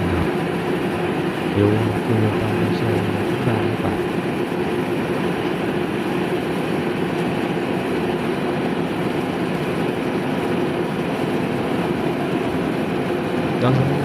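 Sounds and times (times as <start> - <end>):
combine harvester droning: 0.0 - 14.0.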